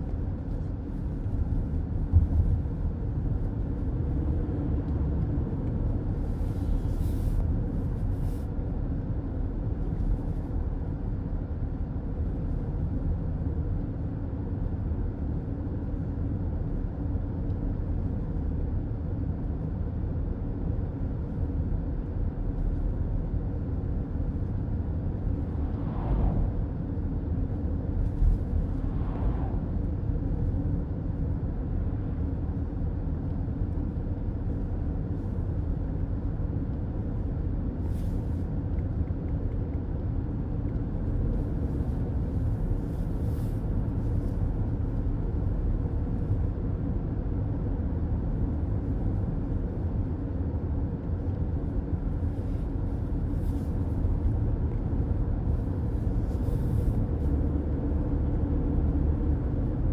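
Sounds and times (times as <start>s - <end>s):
car road and tyre noise: 0.0s - 59.9s.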